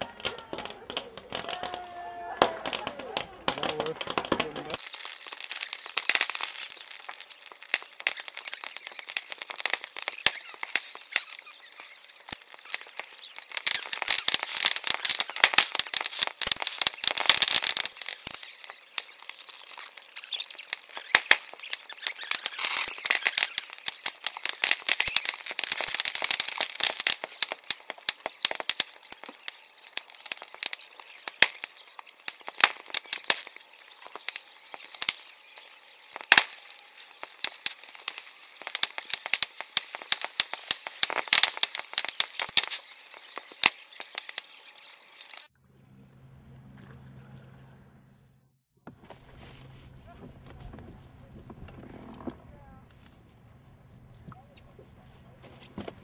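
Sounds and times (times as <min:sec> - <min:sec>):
bonfire crackling and popping: 0:00.0 - 0:45.6.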